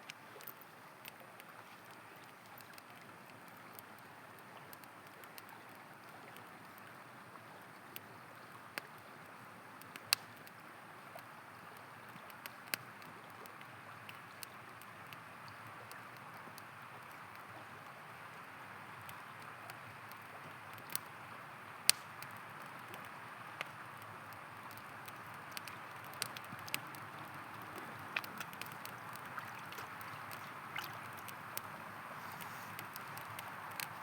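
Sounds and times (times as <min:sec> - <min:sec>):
campfire crackling: 0:00.0 - 0:34.0
river water flowing: 0:00.0 - 0:34.0.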